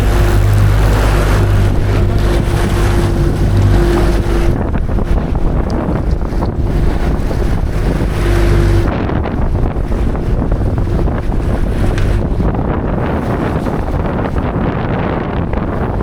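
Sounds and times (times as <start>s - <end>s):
boat motor humming: 0.0s - 16.0s
water rushing past hull: 0.0s - 16.0s
wind buffeting microphone: 0.0s - 16.0s.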